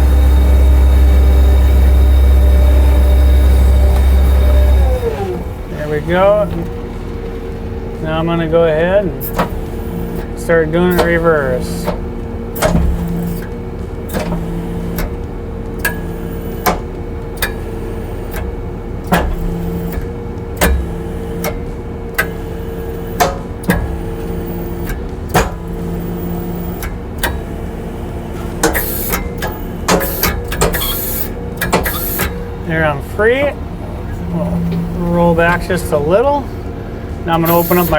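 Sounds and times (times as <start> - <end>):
diesel engine running: 0.0 - 37.9
hydraulic hum: 0.0 - 37.9.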